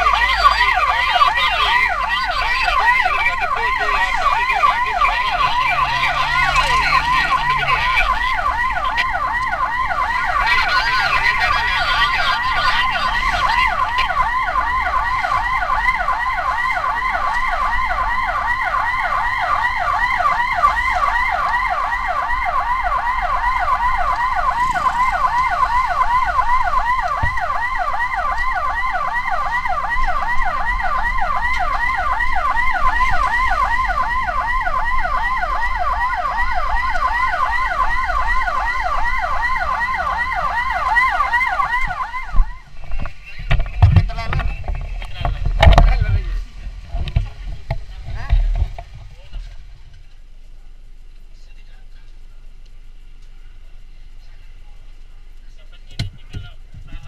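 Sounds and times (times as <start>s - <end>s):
ambulance siren yelping: 0.0s - 46.3s
low road rumble: 0.0s - 57.0s.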